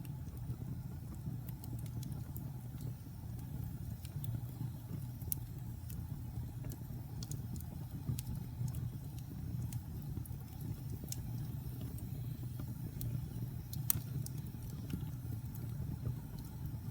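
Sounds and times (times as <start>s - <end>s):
fire flames rumbling: 0.0s - 16.9s
logs crackling and popping: 0.0s - 16.9s.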